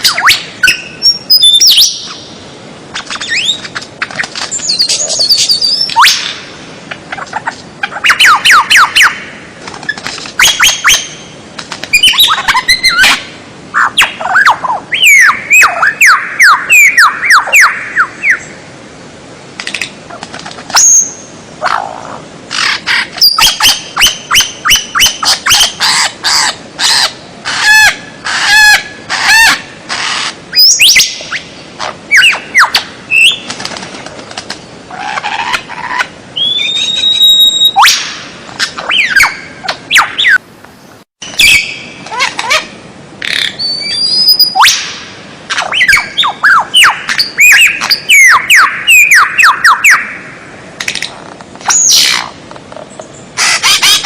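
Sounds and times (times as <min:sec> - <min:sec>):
songbird singing: 0:00.0 - 0:18.8, 0:19.6 - 0:54.0.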